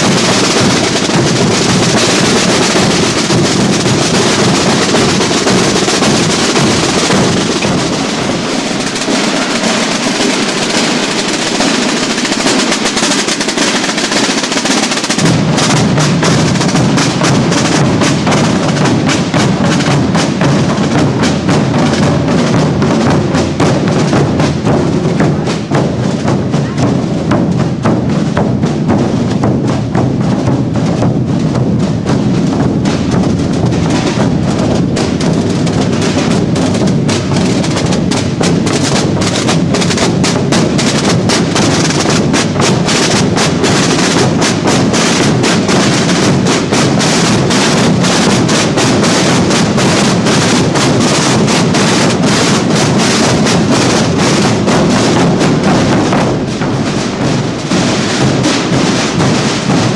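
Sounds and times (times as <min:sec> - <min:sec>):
drums beaten by many drummers: 0:00.0 - 0:59.9.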